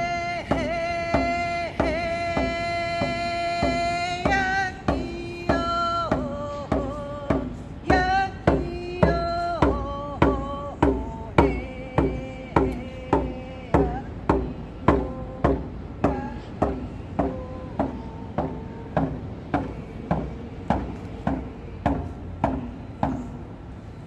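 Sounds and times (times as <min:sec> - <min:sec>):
person singing a chant: 0:00.0 - 0:24.0.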